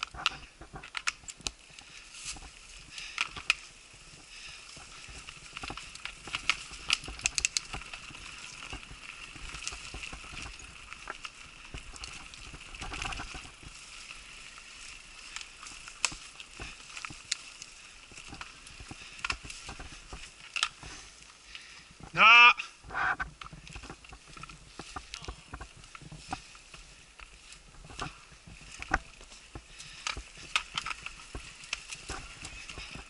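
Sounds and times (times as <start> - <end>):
bike knocking and rattling: 0.0 - 22.2, 22.8 - 33.0
bike tyres hissing: 1.5 - 33.0.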